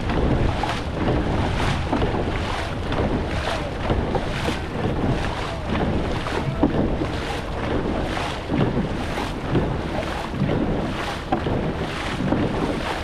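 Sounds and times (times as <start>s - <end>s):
paddles striking water: 0.0s - 13.0s
water rushing past hull: 0.0s - 13.0s
wind rushing on microphone: 0.0s - 13.0s.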